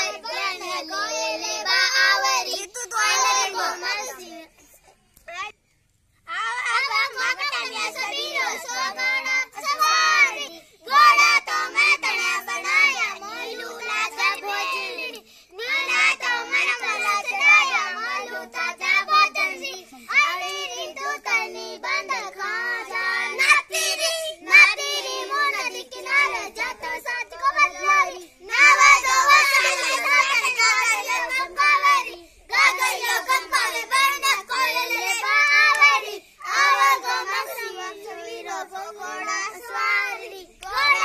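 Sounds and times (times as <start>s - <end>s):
children singing folk song: 0.0s - 5.0s, 6.4s - 41.0s.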